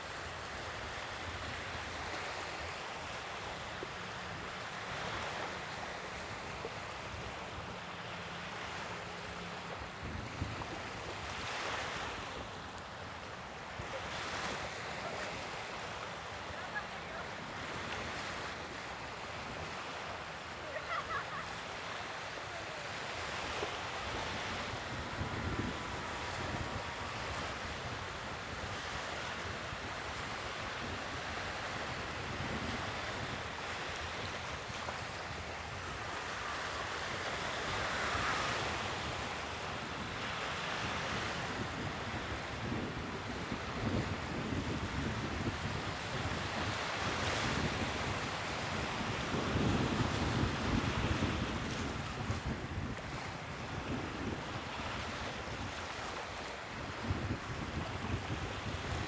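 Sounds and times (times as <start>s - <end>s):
sea waves breaking: 0.0s - 59.0s
wind buffeting microphone: 8.5s - 59.0s.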